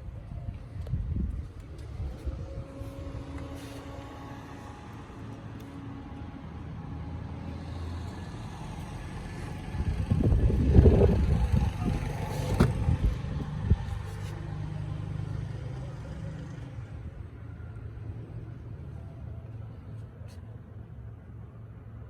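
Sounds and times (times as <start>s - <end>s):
engine running with low rumble: 0.0s - 22.0s.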